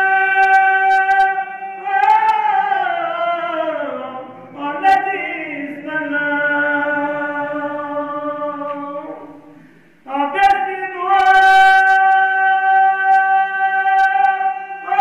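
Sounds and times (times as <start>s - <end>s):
man chanting unaccompanied: 0.0s - 15.0s.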